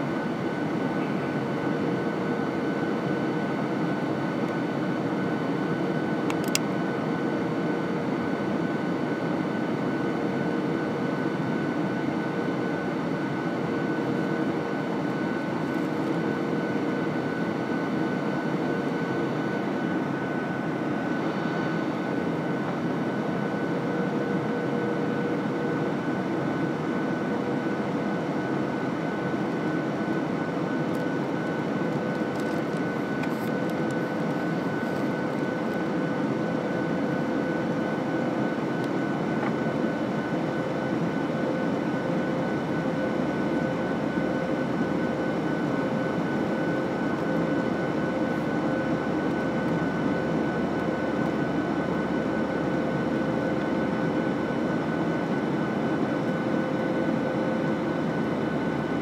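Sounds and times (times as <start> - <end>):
jet engines droning: 0.0 - 59.0
steady high whine: 0.0 - 59.0.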